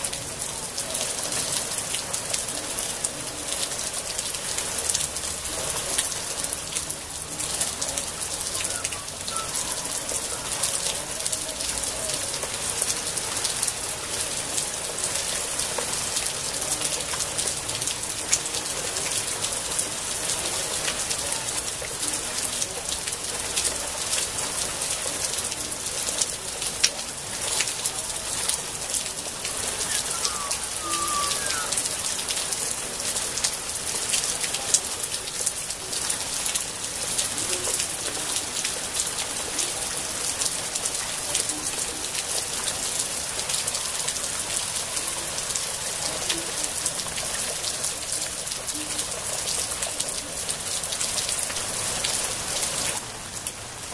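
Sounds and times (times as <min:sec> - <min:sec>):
rain on foliage: 0:00.0 - 0:53.9.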